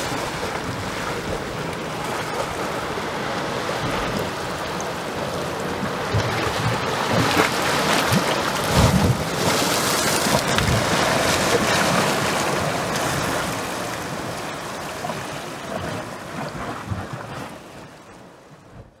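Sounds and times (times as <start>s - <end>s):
waves splashing over rocks: 0.0s - 18.9s
low thuds of waves: 0.0s - 19.0s.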